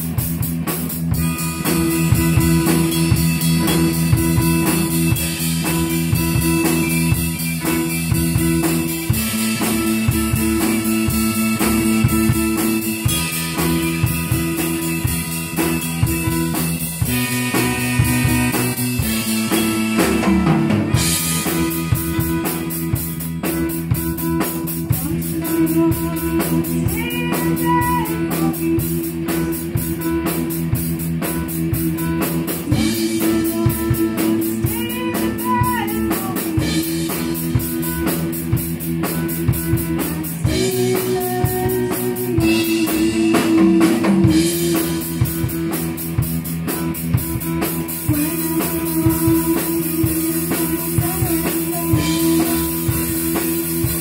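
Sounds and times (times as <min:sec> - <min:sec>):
drum kit beat: 0:00.0 - 0:54.0
rock band playing blues: 0:00.0 - 0:54.0.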